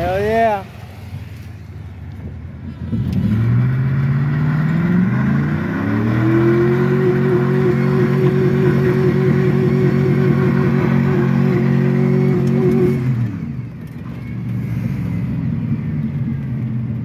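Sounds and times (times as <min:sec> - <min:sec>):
truck engine revving: 0:02.6 - 0:17.0.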